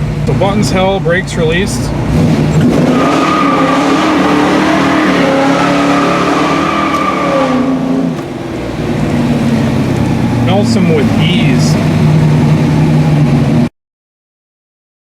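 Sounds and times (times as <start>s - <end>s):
car engine revving high: 0.2s - 13.7s
tires squealing: 1.4s - 13.6s.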